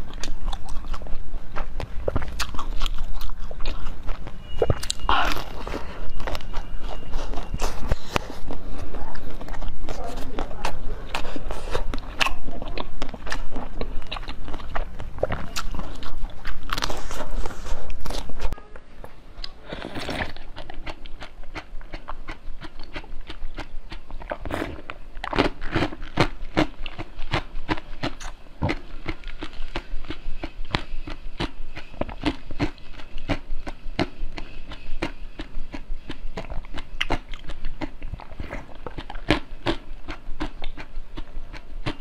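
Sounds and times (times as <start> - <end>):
chewing jelly beads: 0.0 - 18.6, 19.4 - 42.0
chewing jelly sweets: 0.0 - 18.6, 19.4 - 42.0.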